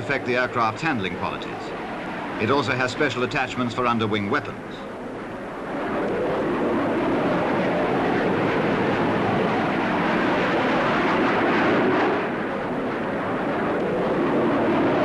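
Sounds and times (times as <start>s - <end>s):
jet engine in flight: 0.0s - 15.0s.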